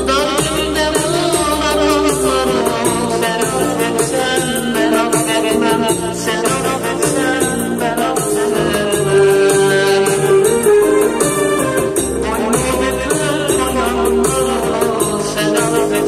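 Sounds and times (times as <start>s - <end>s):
backing track with shaker percussion: 0.0s - 16.0s
man singing into a microphone: 0.0s - 16.0s.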